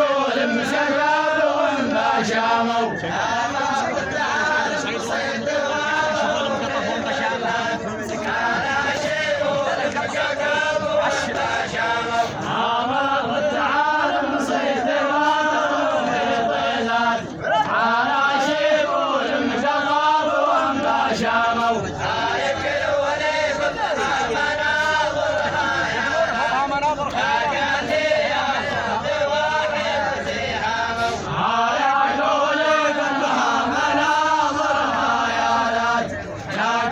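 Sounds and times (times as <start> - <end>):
group of voices chanting a song: 0.0 - 36.9.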